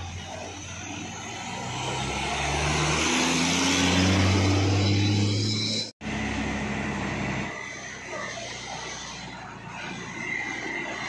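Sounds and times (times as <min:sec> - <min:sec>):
diesel truck passing: 0:00.0 - 0:11.0.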